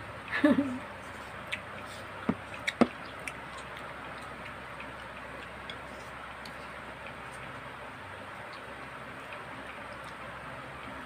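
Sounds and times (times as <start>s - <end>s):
person chewing with wet smacks: 1.0s - 11.0s.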